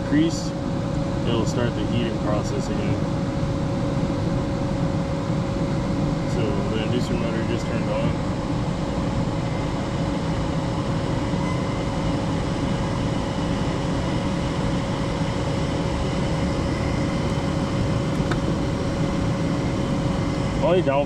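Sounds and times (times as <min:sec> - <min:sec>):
furnace inducer motor running: 0:00.1 - 0:21.0.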